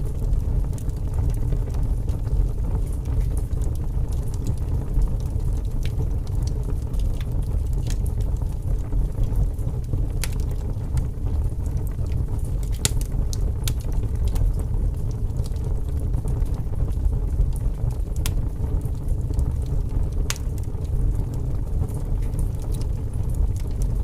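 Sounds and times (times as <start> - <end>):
fire crackles and pops: 0.0 - 24.0
wood fire roaring: 0.0 - 24.0.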